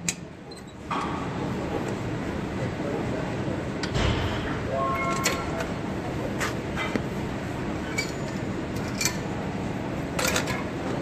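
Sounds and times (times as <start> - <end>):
gym background noise: 0.0 - 11.0.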